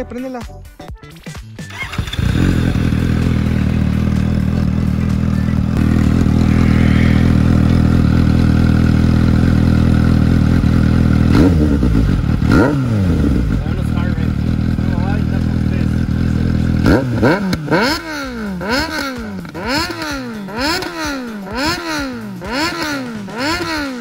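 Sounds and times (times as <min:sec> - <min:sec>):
motorcycle engine starting and idling: 0:01.6 - 0:24.0
motorcycle throttle blips: 0:01.7 - 0:24.0.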